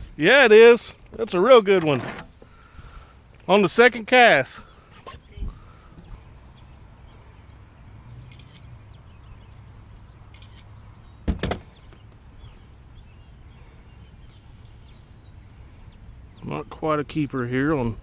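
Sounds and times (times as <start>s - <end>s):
faint high hiss: 0.0s - 18.0s.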